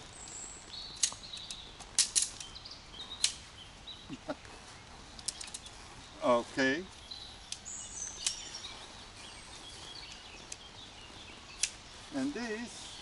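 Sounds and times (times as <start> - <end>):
high bird chirps: 0.0 - 13.0
tent pole clicks and taps: 0.2 - 5.8, 7.4 - 13.0.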